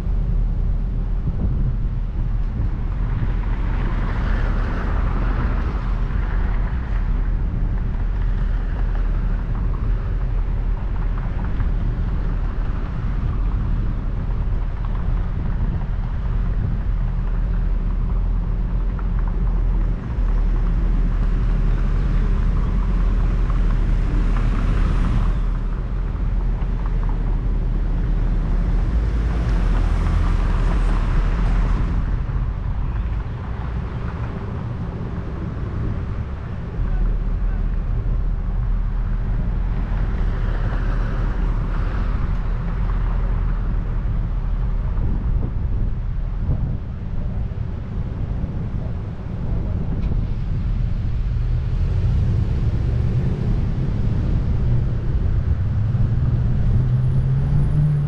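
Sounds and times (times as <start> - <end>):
cars passing: 0.0 - 58.0
low traffic rumble: 0.0 - 58.0
wind on microphone: 0.0 - 58.0.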